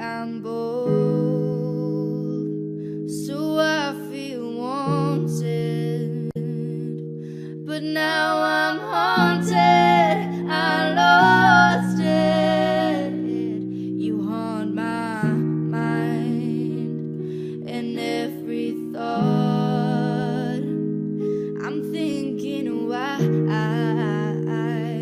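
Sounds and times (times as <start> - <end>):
pop song held chords: 0.0 - 25.0
wordless singing voice: 0.0 - 25.0.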